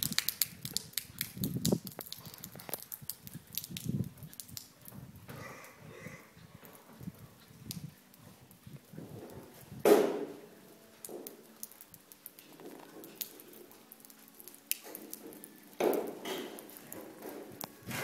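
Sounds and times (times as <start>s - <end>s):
feet pattering on wet concrete: 0.0s - 5.2s, 6.7s - 18.0s.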